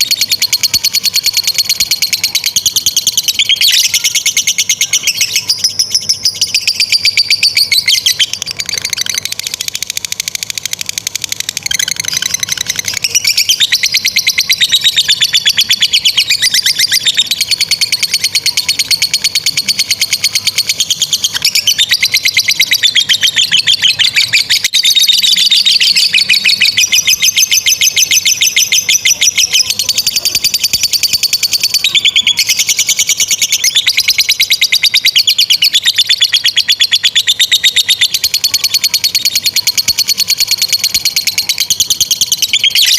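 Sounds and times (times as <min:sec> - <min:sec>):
lovebirds chattering: 0:00.0 - 0:42.9.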